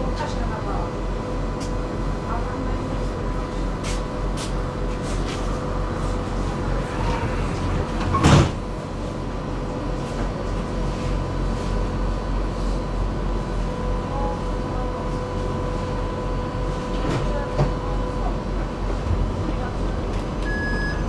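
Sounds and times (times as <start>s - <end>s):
tram equipment humming: 0.0s - 21.0s.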